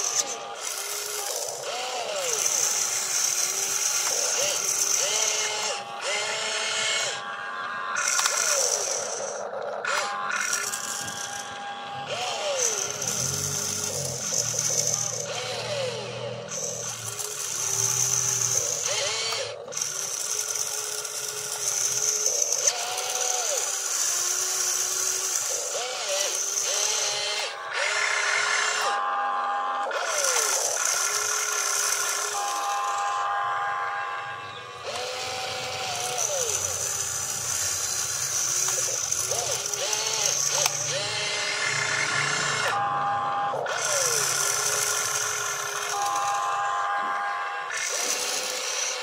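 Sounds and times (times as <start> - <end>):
small electric motors whining: 0.0 - 49.0.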